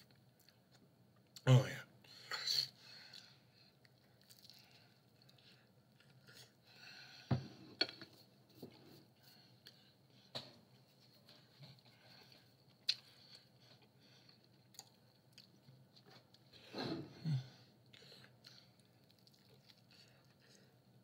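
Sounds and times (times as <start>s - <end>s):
chewing pizza: 0.0s - 1.5s, 2.4s - 21.0s.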